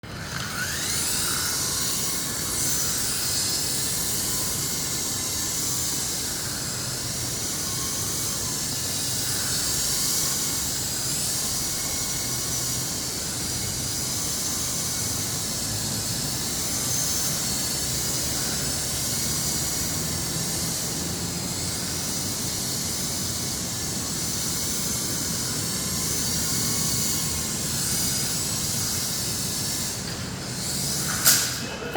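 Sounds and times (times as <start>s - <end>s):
toy helicopter motor whine: 0.0s - 31.9s.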